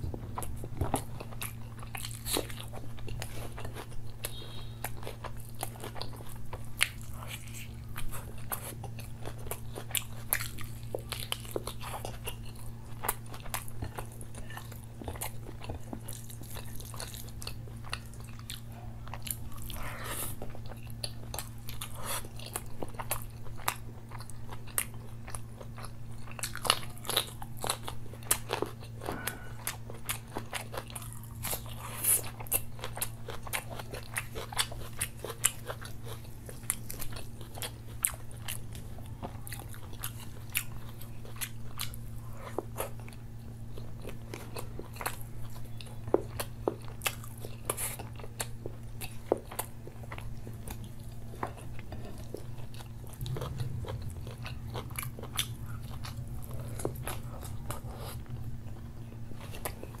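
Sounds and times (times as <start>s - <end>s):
steady low hum: 0.0s - 60.0s
wet chewing and lip smacks: 0.4s - 60.0s.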